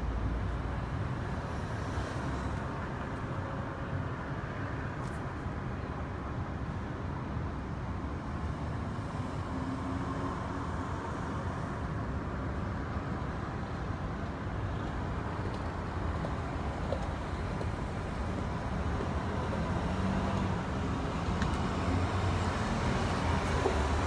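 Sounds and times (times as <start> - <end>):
distant city traffic rumble: 0.0 - 24.0.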